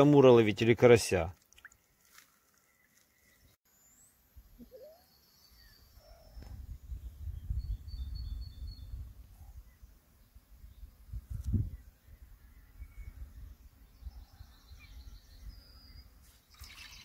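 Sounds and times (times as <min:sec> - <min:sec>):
faint bird chirps: 0:02.4 - 0:10.9, 0:11.7 - 0:17.0.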